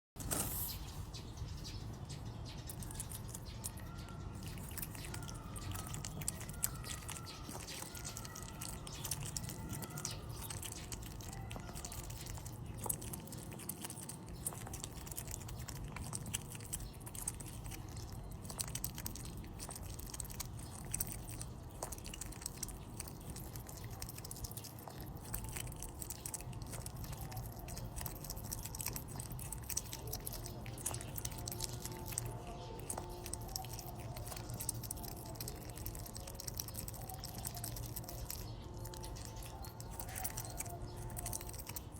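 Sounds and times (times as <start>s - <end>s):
otter chewing wetly: 0.5s - 41.9s.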